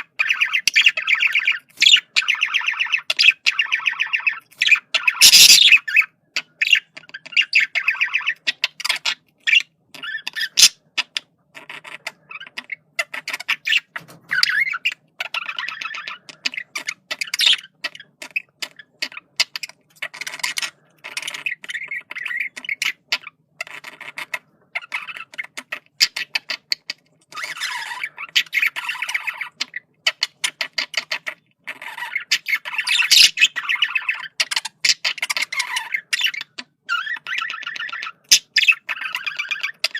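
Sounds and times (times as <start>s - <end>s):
budgerigar warbling and chattering: 0.0s - 39.9s.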